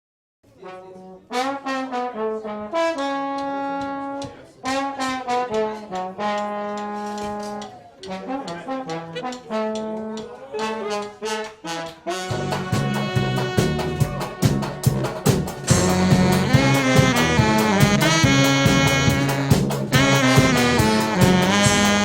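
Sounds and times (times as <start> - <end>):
brass instrument slow melody: 0.6 - 22.0.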